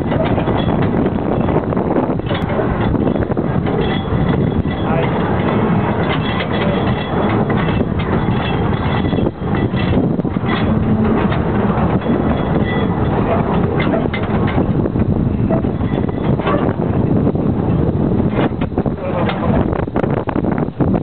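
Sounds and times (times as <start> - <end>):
train rumbling and rattling: 0.0 - 21.0
wheels clacking on track: 0.0 - 21.0.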